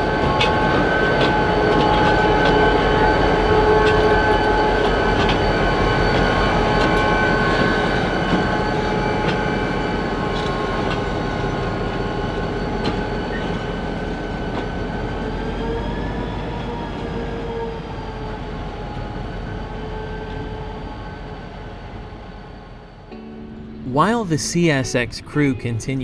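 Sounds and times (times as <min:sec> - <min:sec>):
whine of held tones: 0:00.0 - 0:24.2
locomotive engine drone: 0:00.0 - 0:26.0.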